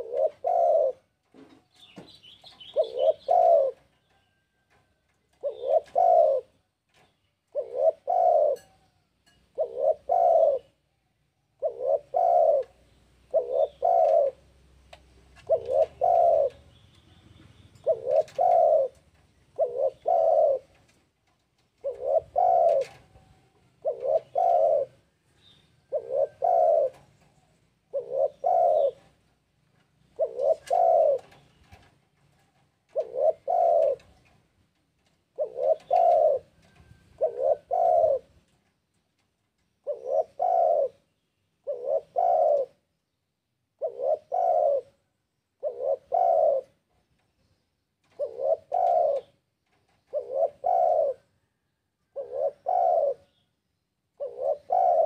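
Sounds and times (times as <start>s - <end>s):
dove cooing: 0.0s - 10.9s, 11.5s - 32.0s, 32.8s - 34.4s, 35.2s - 38.6s, 39.8s - 42.9s, 43.7s - 47.2s, 48.0s - 53.5s, 54.1s - 55.0s.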